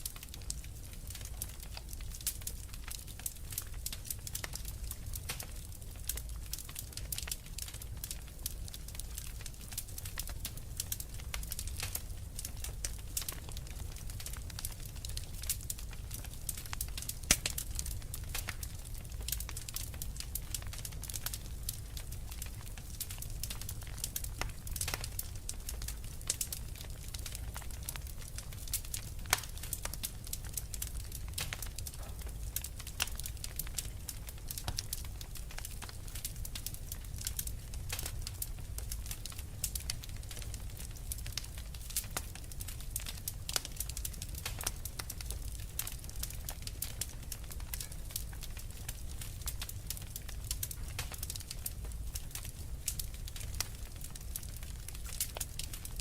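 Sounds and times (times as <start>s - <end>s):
fire crackling and popping: 0.0s - 56.0s
low rumble of flame: 0.0s - 56.0s.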